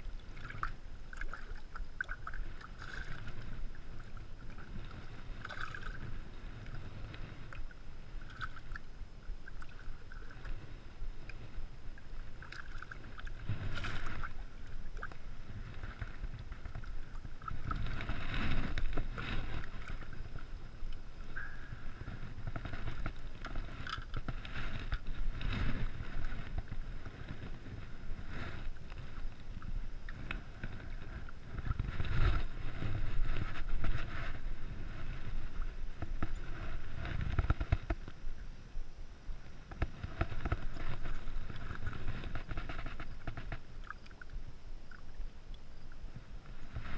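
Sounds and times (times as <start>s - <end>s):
water splashing and sloshing: 0.0s - 38.3s, 39.7s - 46.9s.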